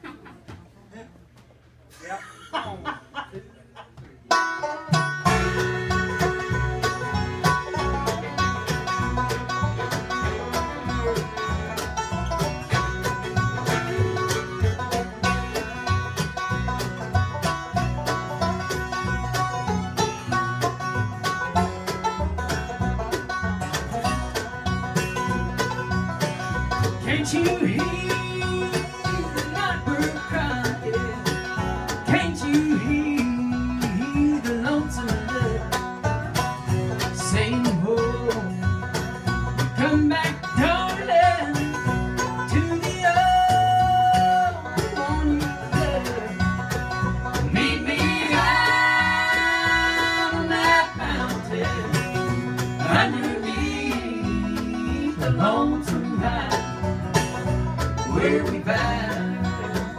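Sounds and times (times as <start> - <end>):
bluegrass band playing: 2.0 - 59.9.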